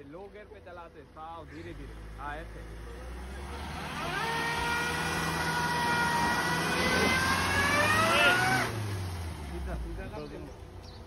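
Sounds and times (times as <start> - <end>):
car engine revving hard: 1.5 - 10.4.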